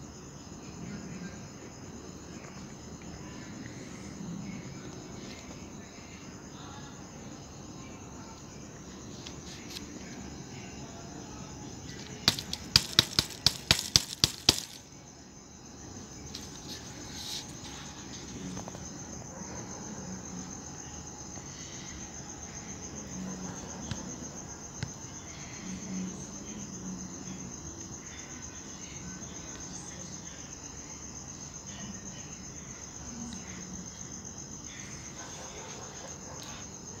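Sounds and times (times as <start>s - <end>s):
high-pitched insect trill: 0.0s - 37.0s.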